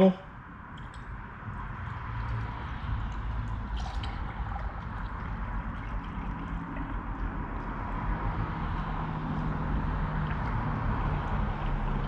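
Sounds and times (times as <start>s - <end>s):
coolant pouring: 0.7s - 12.0s.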